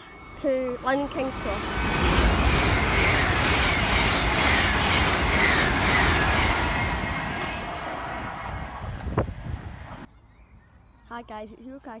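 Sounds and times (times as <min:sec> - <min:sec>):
high-speed train passing: 0:00.0 - 0:10.1.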